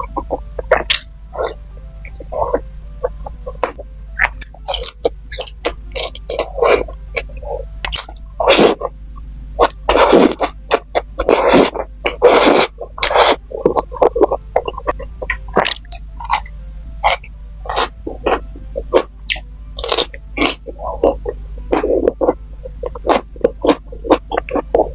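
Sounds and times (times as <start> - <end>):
wet chewing noises: 0.0 - 7.0, 7.8 - 8.9, 9.6 - 24.9.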